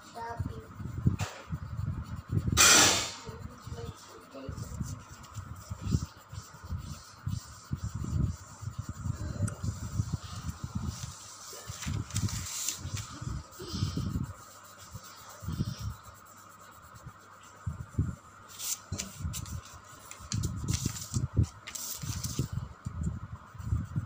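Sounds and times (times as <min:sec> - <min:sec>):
pencil scratching on paper: 0:00.0 - 0:24.0.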